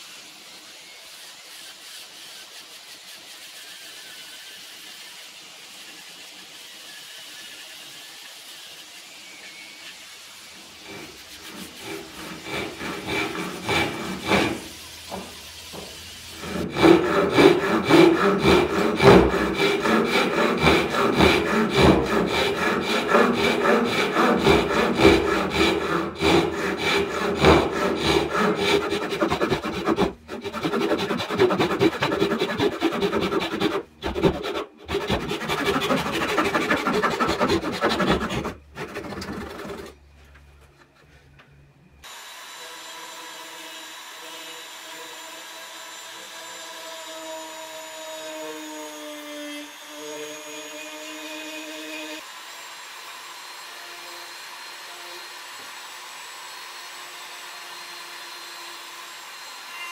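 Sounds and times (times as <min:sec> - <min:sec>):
hand saw cutting wood: 0:01.2 - 0:40.0, 0:42.0 - 0:59.9.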